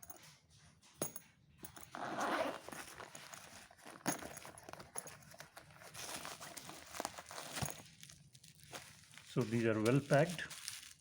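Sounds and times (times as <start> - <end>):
packaging rustling: 2.0 - 11.0.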